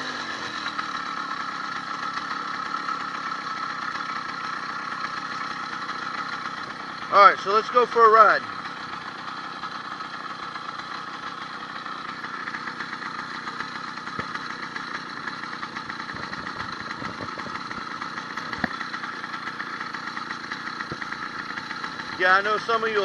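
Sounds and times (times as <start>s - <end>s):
two-stroke engine idling: 0.0s - 23.0s.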